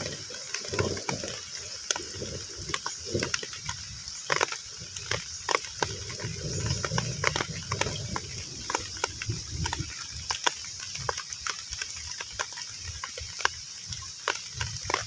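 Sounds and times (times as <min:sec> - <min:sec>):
raindrops plinking on water: 0:00.0 - 0:15.0
steady rain hiss: 0:00.0 - 0:15.0.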